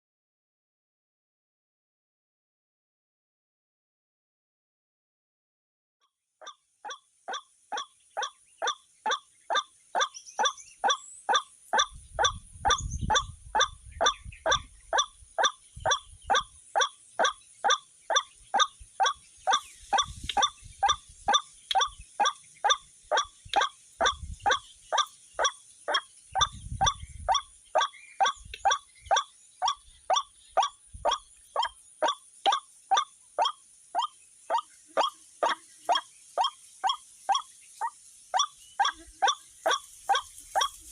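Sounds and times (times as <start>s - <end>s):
waterhen calling: 6.4s - 40.9s.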